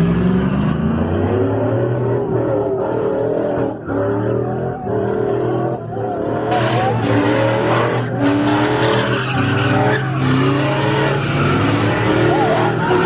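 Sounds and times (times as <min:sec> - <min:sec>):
engine droning at high revs: 0:00.0 - 0:13.0
tyres squealing: 0:02.2 - 0:13.0.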